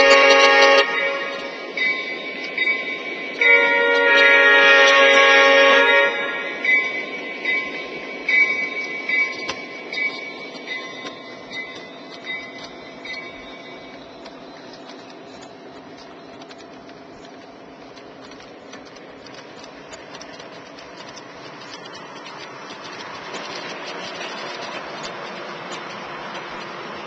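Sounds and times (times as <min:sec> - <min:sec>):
model train wheels rumbling: 0:00.0 - 0:27.0.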